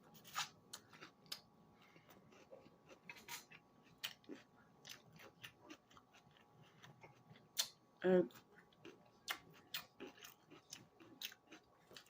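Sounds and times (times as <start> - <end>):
chewing crunchy salad: 0.2 - 12.0.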